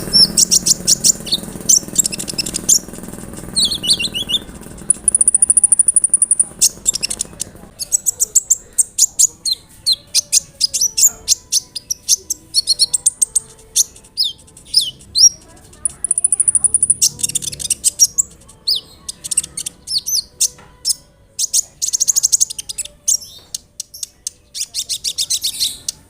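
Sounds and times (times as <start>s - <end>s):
bird singing: 0.0s - 26.0s
high bird trill: 0.0s - 26.0s.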